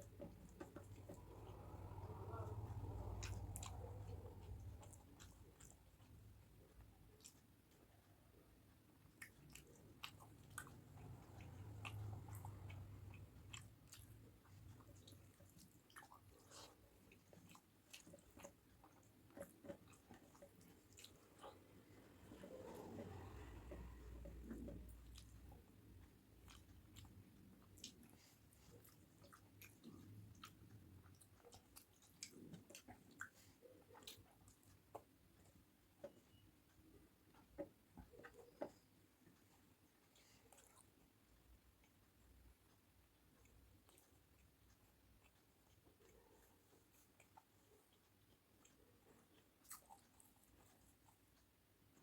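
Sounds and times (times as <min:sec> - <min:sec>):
close chewing of food: 0:00.0 - 0:52.0.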